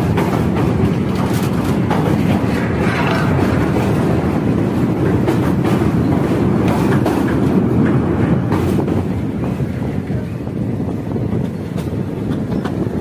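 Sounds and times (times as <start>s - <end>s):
rail joint clicks: 0.0s - 13.0s
train rumbling over steel bridge: 0.0s - 13.0s.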